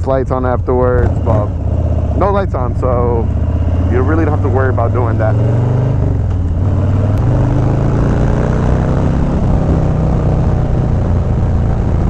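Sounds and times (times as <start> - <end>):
motorcycle exhaust rumble: 0.0 - 12.0.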